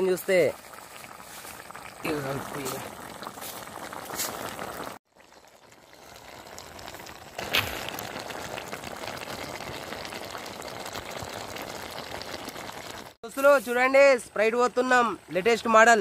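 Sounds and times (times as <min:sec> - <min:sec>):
chicken sizzling in a pot: 0:00.0 - 0:14.1.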